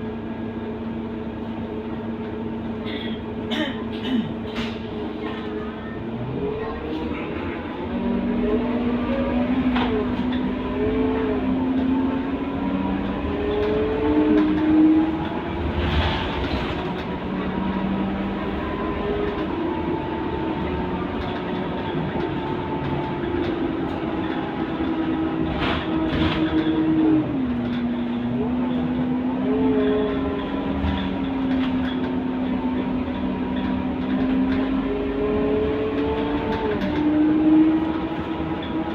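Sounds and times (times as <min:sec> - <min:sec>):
bus engine whine: 0:00.0 - 0:38.9.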